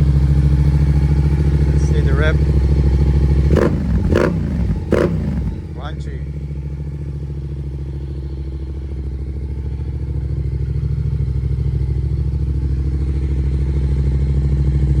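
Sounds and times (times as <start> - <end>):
motorcycle exhaust idling: 0.0 - 15.0.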